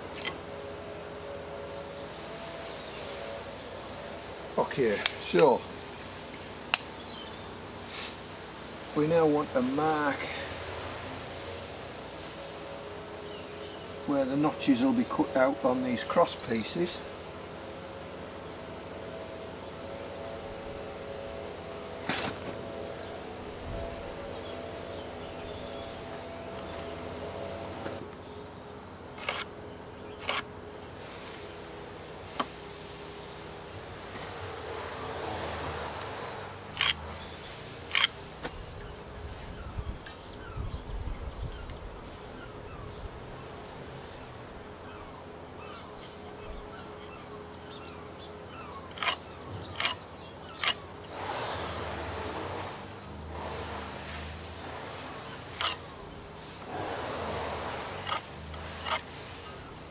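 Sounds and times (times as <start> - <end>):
small birds chirping: 0.0 - 18.6, 22.6 - 59.9
steady hum with held tones: 0.0 - 59.9.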